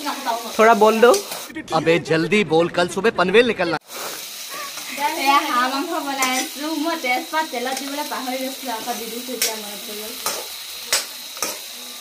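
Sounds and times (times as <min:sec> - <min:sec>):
meat sizzling in a wok: 0:00.0 - 0:01.5, 0:03.8 - 0:12.0.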